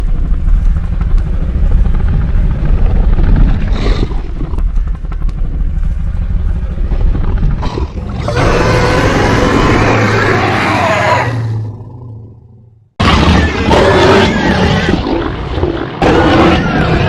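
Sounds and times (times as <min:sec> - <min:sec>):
deep rumbling creature growl: 0:00.9 - 0:17.0.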